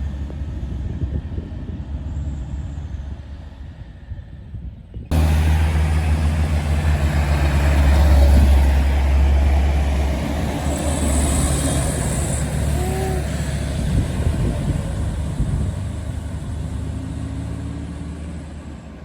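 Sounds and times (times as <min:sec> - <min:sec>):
truck engine with open exhaust: 0:00.0 - 0:19.0.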